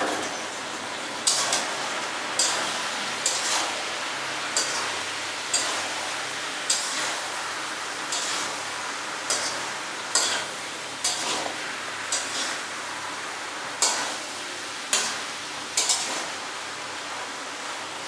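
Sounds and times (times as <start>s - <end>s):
frying hiss: 0.0s - 18.0s.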